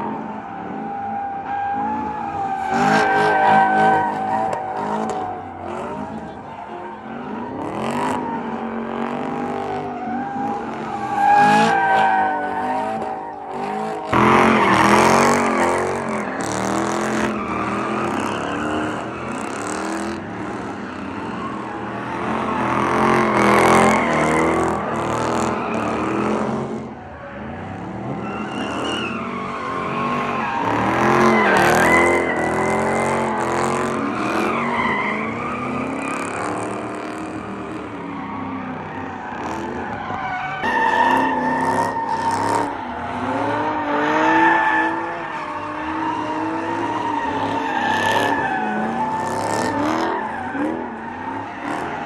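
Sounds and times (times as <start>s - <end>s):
car engines revving: 0.0s - 52.0s
tires squealing: 0.0s - 52.0s.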